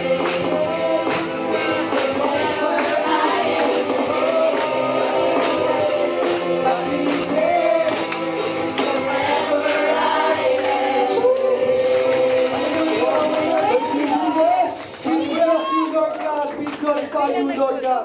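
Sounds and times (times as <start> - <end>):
voices singing together: 0.0 - 14.7
steady drum beat: 0.0 - 15.8.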